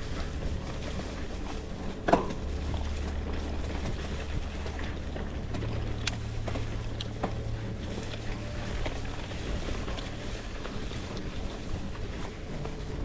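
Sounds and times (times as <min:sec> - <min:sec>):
bicycle tyres rolling on dirt: 0:00.0 - 0:13.0
steady low hum: 0:00.0 - 0:13.0
wind on microphone: 0:00.0 - 0:13.0.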